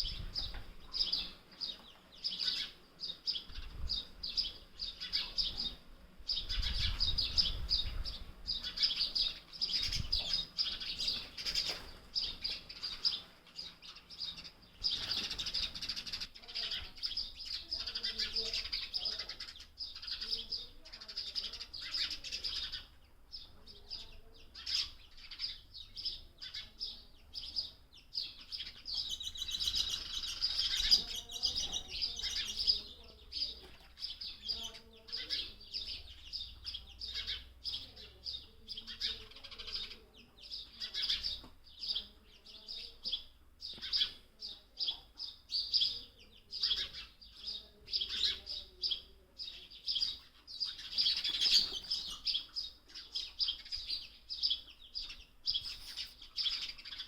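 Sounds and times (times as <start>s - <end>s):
sparrow chirping: 0.0s - 57.0s.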